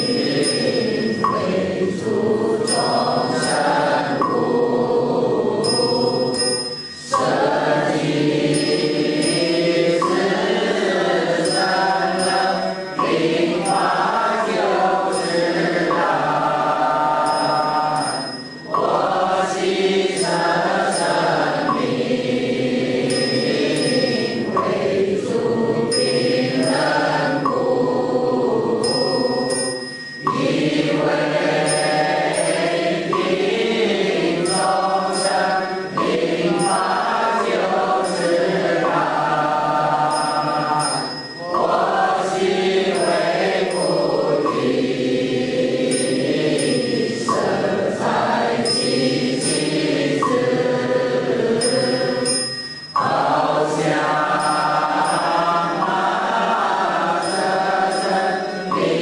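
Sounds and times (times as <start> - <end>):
group of voices chanting: 0.0 - 6.4, 7.0 - 29.5, 30.3 - 52.3, 53.0 - 59.0.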